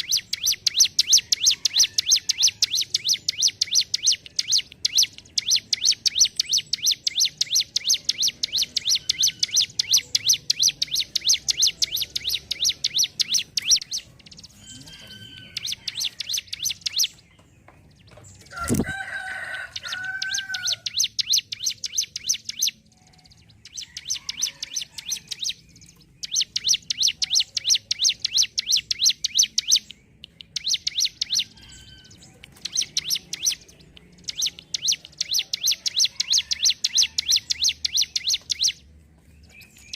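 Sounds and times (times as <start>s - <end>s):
prinia chattering song: 0.0s - 18.9s, 19.6s - 39.9s.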